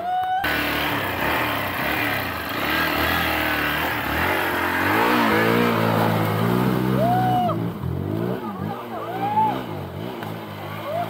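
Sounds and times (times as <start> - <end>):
motorcycle engine revving: 0.4 - 11.0.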